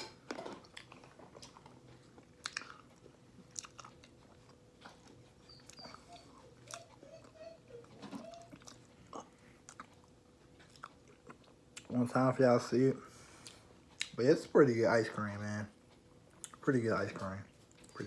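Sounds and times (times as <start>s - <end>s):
person chewing ice cream: 0.2s - 12.0s, 13.1s - 14.2s, 15.8s - 18.0s.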